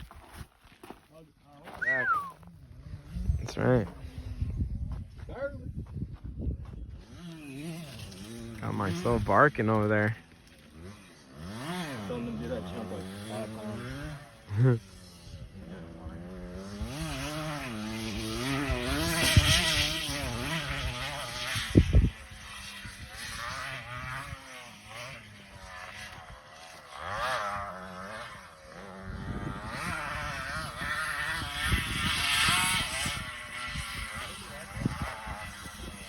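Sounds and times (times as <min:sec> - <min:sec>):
pit bike engine revving: 0:06.8 - 0:36.0.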